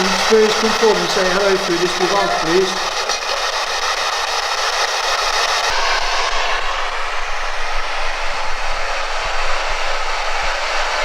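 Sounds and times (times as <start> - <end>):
steady static hiss: 0.0 - 11.0.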